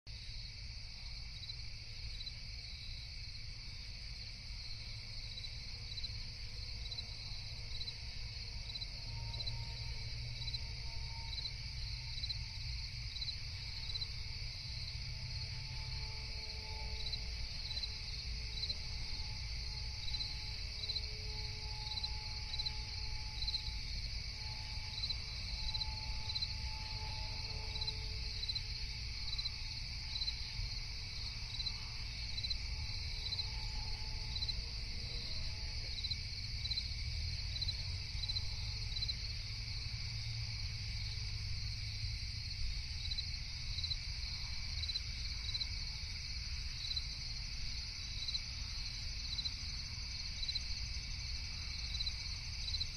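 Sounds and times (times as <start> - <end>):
crickets and insects trilling: 0.1 - 52.9
regular insect chirp: 0.1 - 52.9.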